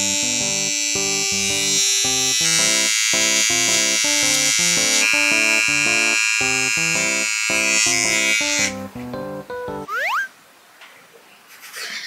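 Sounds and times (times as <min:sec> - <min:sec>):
bouncy synth music: 0:00.0 - 0:10.1.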